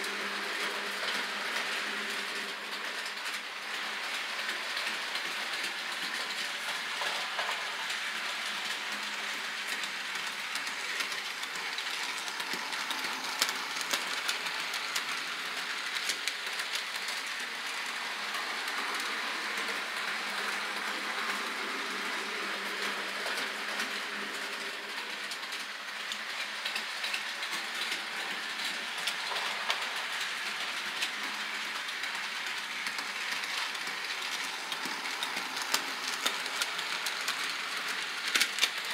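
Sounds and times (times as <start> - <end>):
model train rattling on track: 0.0 - 38.9.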